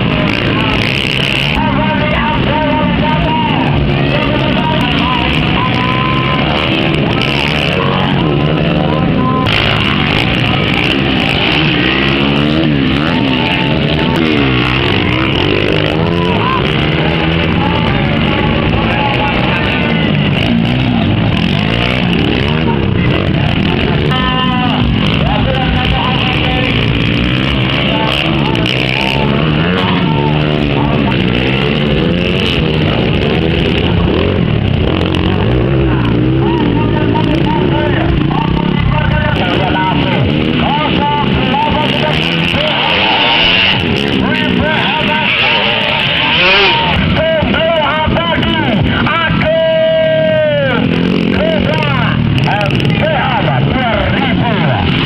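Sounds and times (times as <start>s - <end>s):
motorbike engines revving: 0.0s - 55.0s.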